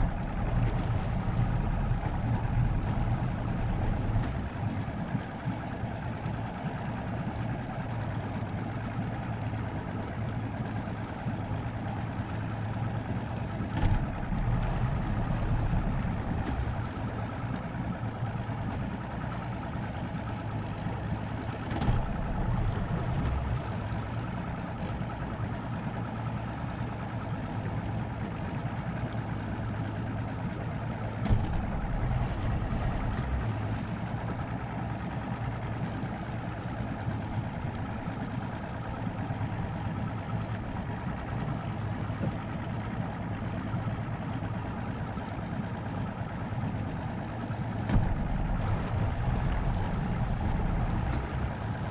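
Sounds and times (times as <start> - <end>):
motorboat engine humming: 0.0 - 51.9.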